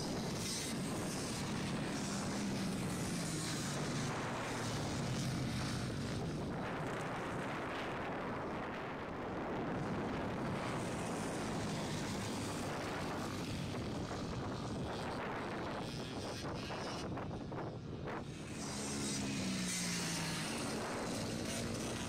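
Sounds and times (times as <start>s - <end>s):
dirt bike engines droning: 0.0s - 22.0s.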